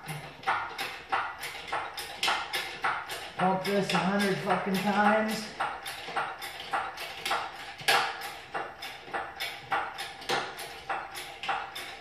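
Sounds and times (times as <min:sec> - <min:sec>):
hydraulic hoist pump clanking: 0:00.0 - 0:12.0.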